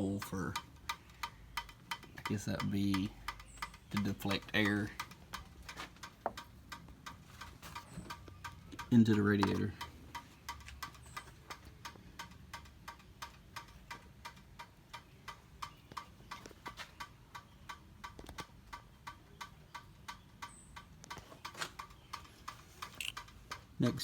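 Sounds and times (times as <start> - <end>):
rapid ticking: 0.0 - 24.0.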